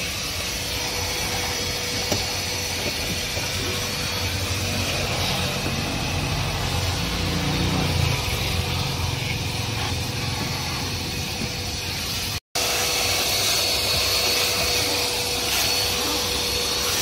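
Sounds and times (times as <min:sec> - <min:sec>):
vacuum cleaner on carpet: 0:00.0 - 0:17.0.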